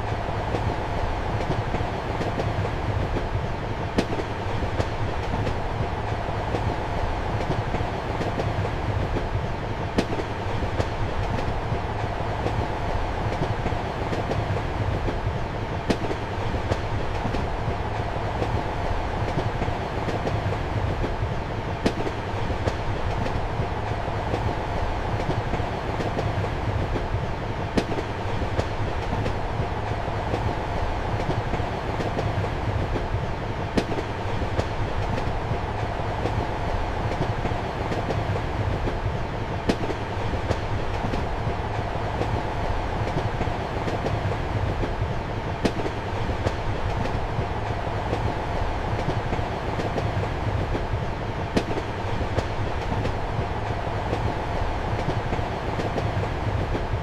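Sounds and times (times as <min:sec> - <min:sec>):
train carriage rumbling: 0:00.0 - 0:57.0.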